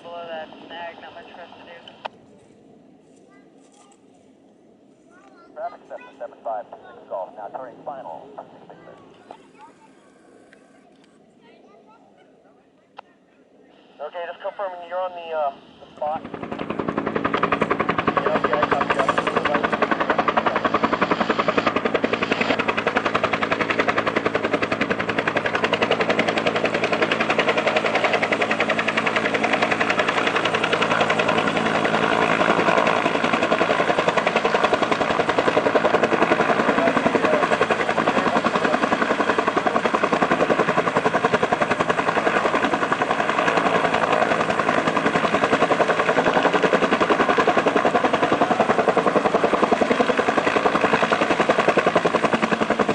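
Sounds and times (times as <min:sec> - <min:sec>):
turbine engine whine: 0:00.0 - 0:03.0, 0:04.4 - 0:11.4, 0:13.4 - 0:52.9
helicopter rotor chopping: 0:00.0 - 0:12.4, 0:13.0 - 0:52.9.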